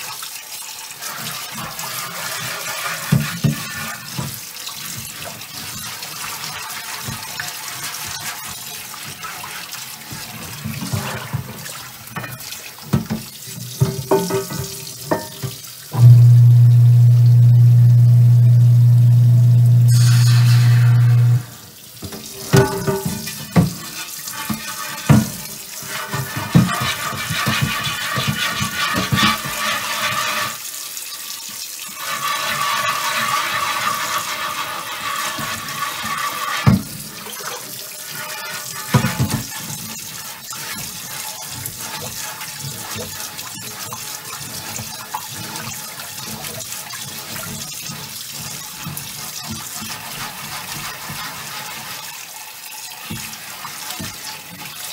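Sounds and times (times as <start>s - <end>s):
tap water running into pan: 0.0s - 54.9s
chain mail scrubber scrubbing pan: 1.5s - 15.6s, 19.9s - 30.6s, 32.0s - 52.0s.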